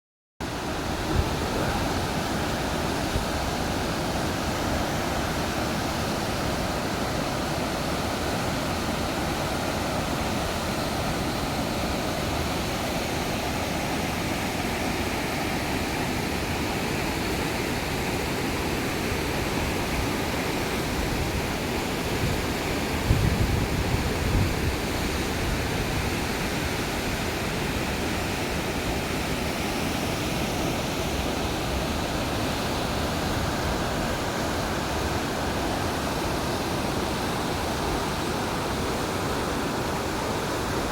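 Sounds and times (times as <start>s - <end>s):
waterfall roaring: 0.4s - 40.9s.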